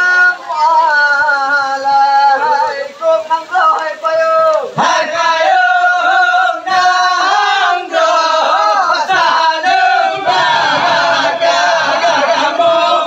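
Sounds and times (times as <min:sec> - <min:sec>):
men chanting unaccompanied: 0:00.0 - 0:13.0.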